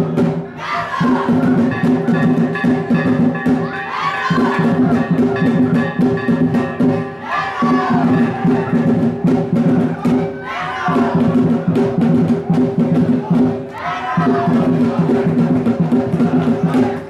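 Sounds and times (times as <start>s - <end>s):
music with steady drum beat: 0.0s - 17.0s.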